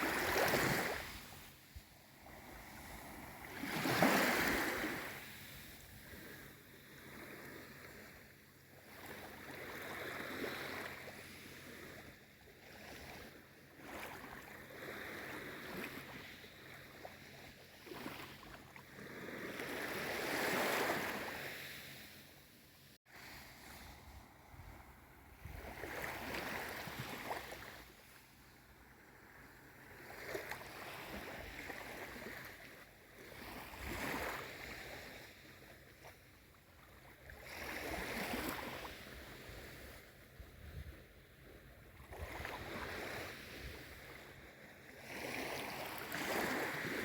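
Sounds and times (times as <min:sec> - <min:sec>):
small waves lapping: 0:00.0 - 0:22.4, 0:23.1 - 0:47.0.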